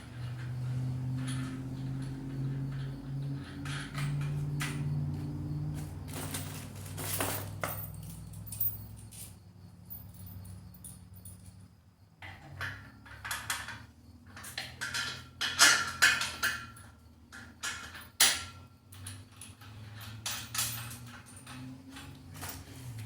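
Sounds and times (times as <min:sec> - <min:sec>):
metal parts clanking and rattling: 0:00.0 - 0:11.6, 0:12.2 - 0:23.0.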